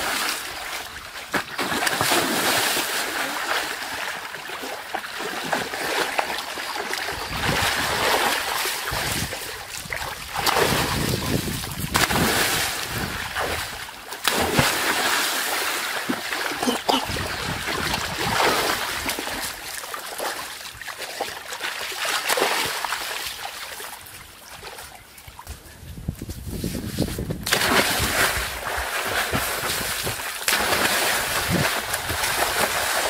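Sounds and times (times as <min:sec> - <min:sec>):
person splashing into pool: 0:00.0 - 0:23.9, 0:27.4 - 0:33.0.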